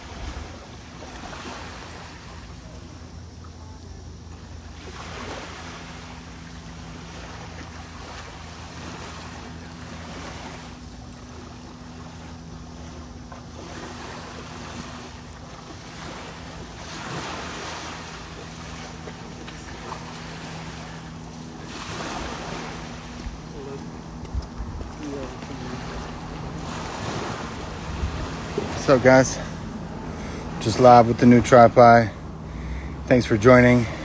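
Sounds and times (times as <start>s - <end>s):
ocean waves breaking: 0.0s - 34.0s
steady low hum: 0.0s - 34.0s.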